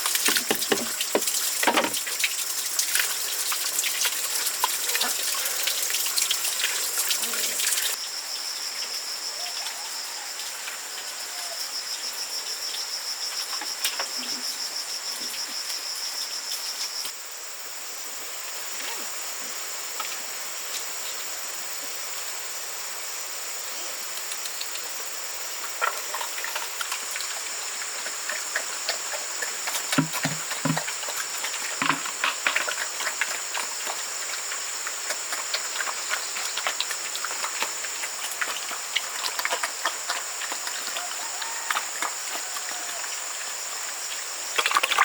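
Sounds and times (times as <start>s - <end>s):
insect chorus: 0.0s - 45.0s.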